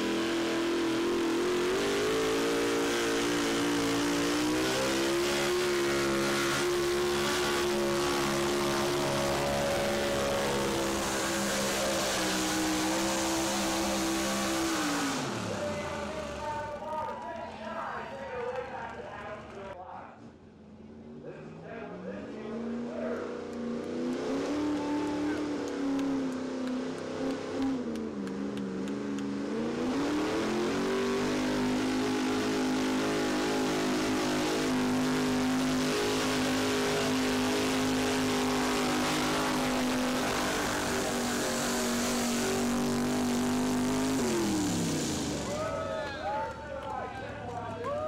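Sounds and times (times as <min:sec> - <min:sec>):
truck engine revving at full throttle: 0:00.0 - 0:16.8, 0:21.1 - 0:45.8.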